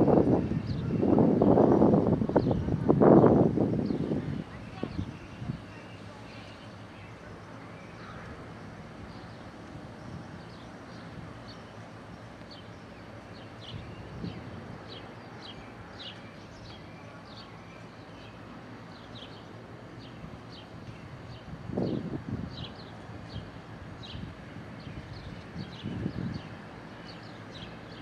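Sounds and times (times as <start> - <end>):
songbird chirping: 0.1 - 28.0.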